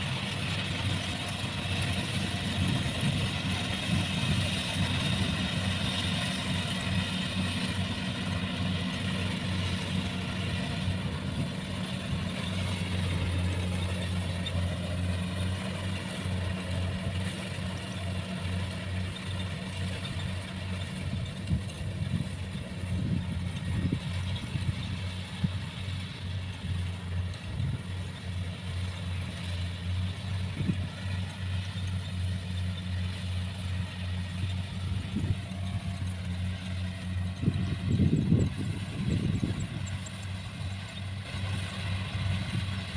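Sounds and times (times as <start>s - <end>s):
combine harvester engine humming: 0.0s - 42.9s.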